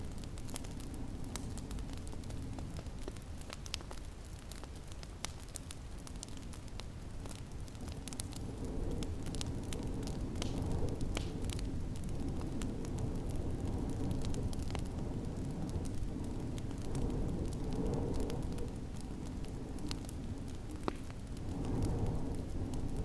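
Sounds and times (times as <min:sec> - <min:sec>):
low wind rumble: 0:00.0 - 0:23.0
wood fire crackling: 0:00.0 - 0:23.0.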